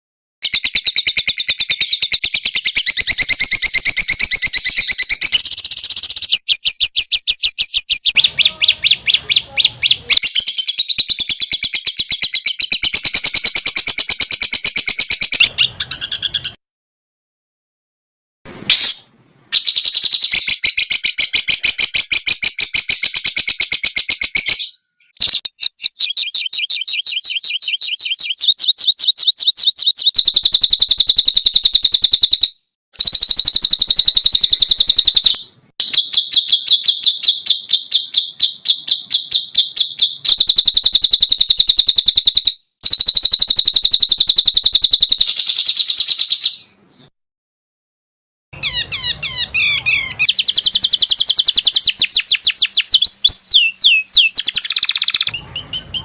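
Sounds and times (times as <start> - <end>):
songbird trilling chatter: 0.4 - 16.6, 19.6 - 46.7, 48.6 - 56.0.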